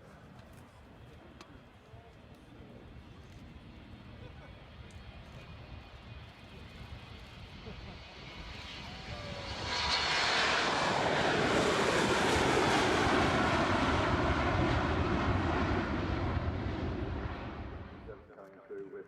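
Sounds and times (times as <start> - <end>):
jet airliner taking off: 2.9 - 18.2.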